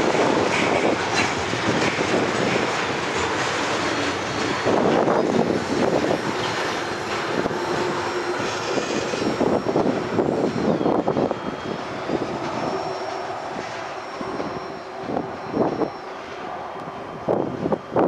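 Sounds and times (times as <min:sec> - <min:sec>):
wheels clattering over rails: 0:00.0 - 0:17.0
high wheel squeal: 0:00.0 - 0:18.0.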